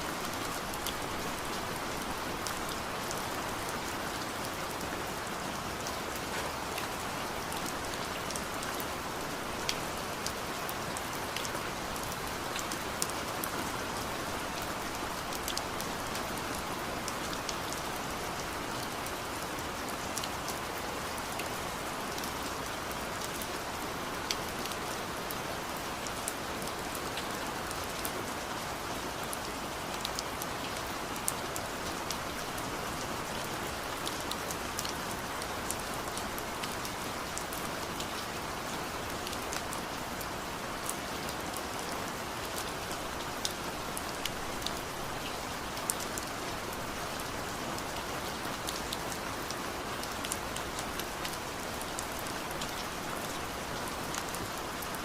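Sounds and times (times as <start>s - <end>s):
steady rain falling: 0.0s - 55.0s
raindrops ticking on surface: 0.1s - 55.0s.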